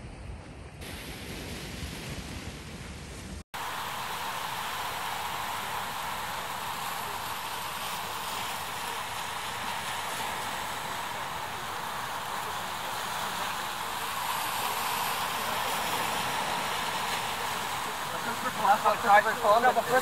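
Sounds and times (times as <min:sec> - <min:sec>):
outdoor background hiss: 0:00.8 - 0:20.0.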